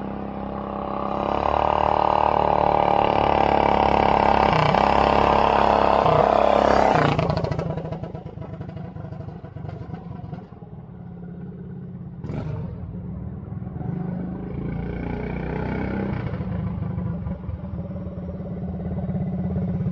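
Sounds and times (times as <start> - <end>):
minibike engine revving: 0.0 - 10.8, 13.8 - 19.9.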